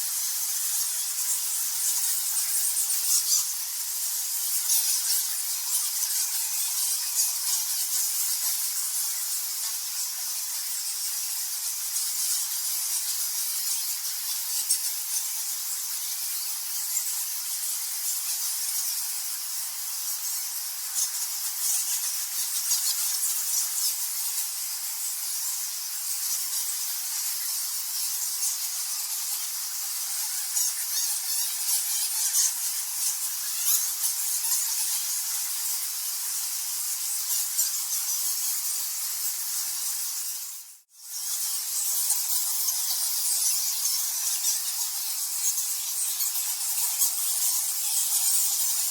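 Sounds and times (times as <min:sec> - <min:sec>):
bats squeaking and chittering: 0:00.1 - 0:48.9.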